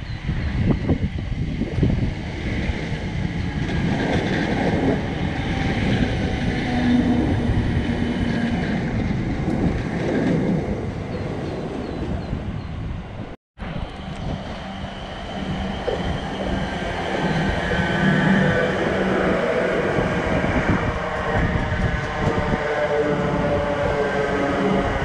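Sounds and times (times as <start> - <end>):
electric train humming: 0.0 - 25.0
train wheels rumbling on track: 0.0 - 25.0.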